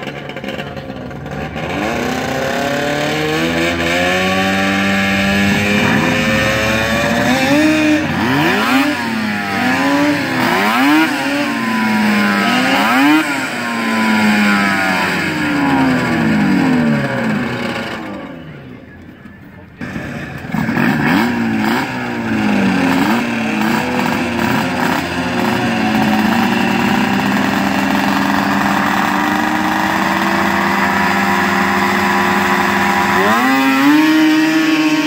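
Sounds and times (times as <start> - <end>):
snowmobile engines revving: 0.0 - 35.0.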